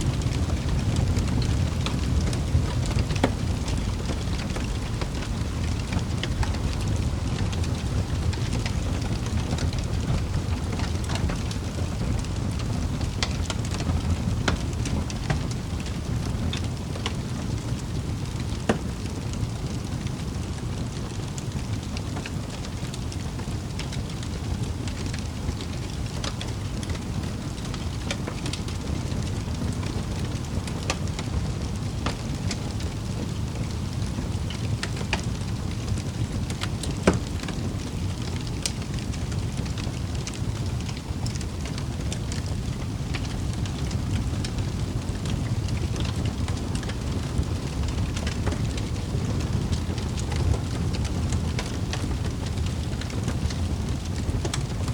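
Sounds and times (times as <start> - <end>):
fire crackling in a fireplace: 0.0 - 54.9.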